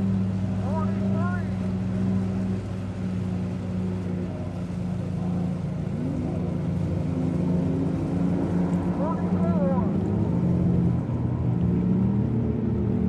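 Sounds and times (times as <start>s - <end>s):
outboard boat motor droning: 0.0s - 13.0s.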